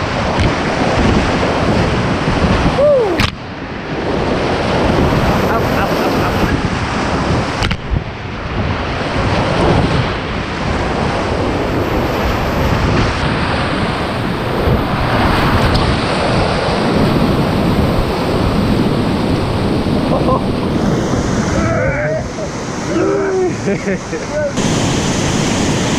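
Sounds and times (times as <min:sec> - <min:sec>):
whitewater rapids rushing: 0:00.0 - 0:07.5, 0:10.8 - 0:25.9.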